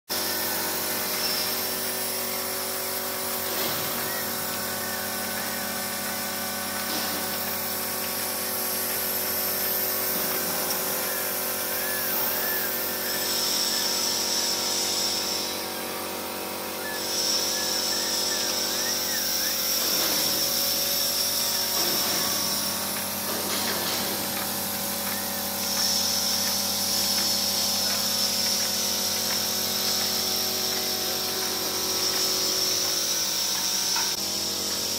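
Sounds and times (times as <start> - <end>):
high hiss: 0.1 - 34.9
machine hum of motors and fans: 0.1 - 34.9.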